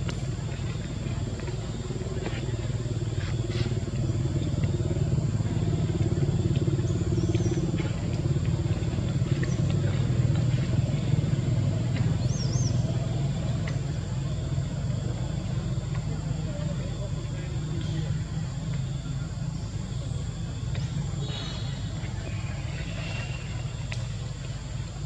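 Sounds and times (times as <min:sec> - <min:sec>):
motor idling rumble: 0:00.0 - 0:25.0.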